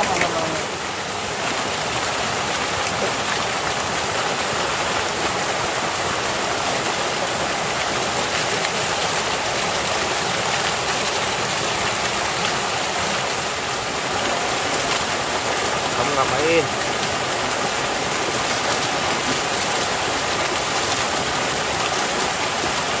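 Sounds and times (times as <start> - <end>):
waterfall pouring over rocks: 0.0 - 23.0.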